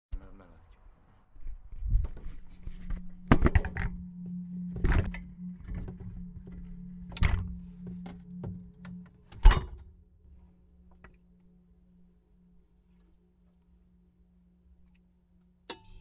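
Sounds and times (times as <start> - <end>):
steady low hum: 1.5 - 16.0.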